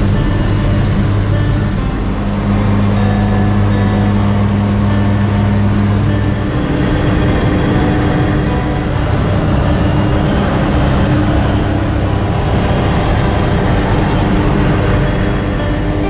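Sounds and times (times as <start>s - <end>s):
floatplane engine droning: 0.0s - 16.0s.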